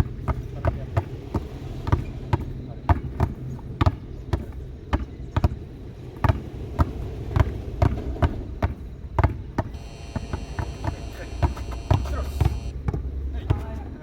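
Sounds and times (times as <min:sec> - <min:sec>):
basketballs bouncing: 0:00.0 - 0:13.7.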